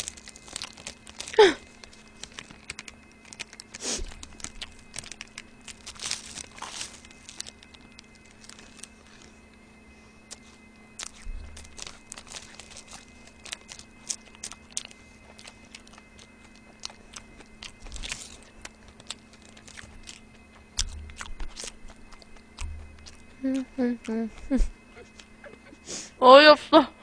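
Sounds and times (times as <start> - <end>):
crunching and chewing: 0.0 - 25.9.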